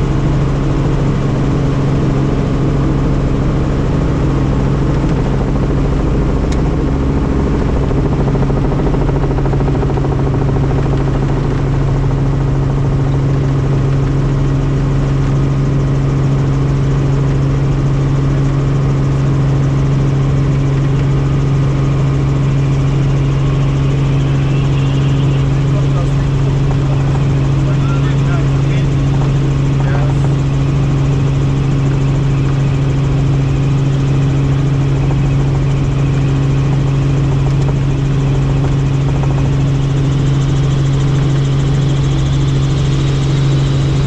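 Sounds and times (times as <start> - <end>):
helicopter engine and rotors: 0.0 - 44.0.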